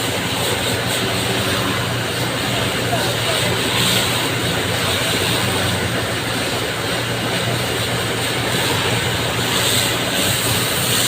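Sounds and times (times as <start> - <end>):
engine drone: 0.0 - 11.0
water hosing pavement: 0.0 - 11.0.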